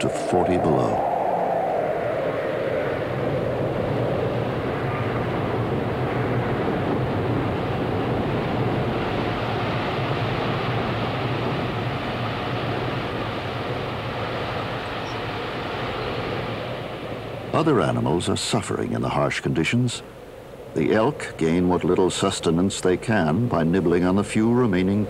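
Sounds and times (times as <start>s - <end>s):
strong wind through conifers: 0.0s - 25.0s.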